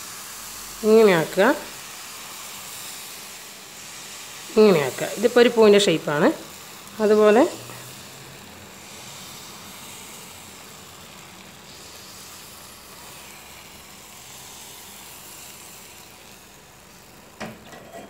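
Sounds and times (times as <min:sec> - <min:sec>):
batter sizzling in a pan: 0:00.0 - 0:18.0.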